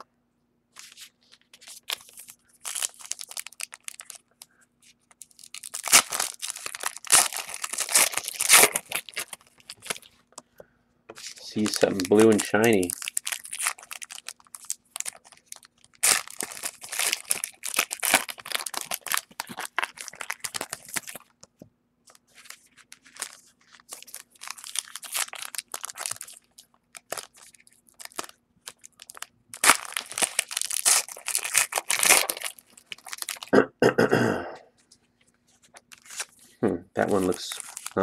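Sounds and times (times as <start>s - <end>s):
wrappers tearing and crinkling: 0.8s - 10.2s, 11.2s - 21.3s, 22.1s - 33.5s, 35.6s - 38.0s.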